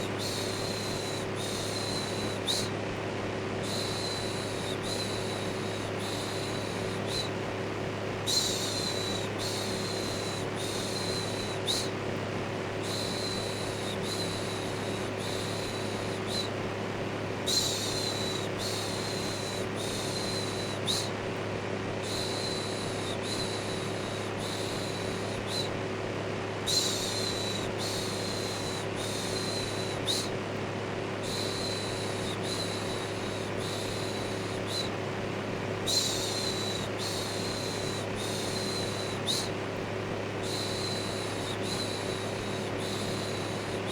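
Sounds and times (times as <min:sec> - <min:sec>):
electric fan hum: 0:00.0 - 0:43.9.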